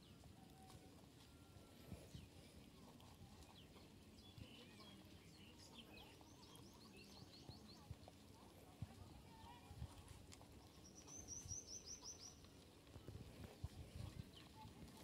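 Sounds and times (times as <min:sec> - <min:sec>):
small birds chirping: 0:01.7 - 0:08.4, 0:09.1 - 0:15.0.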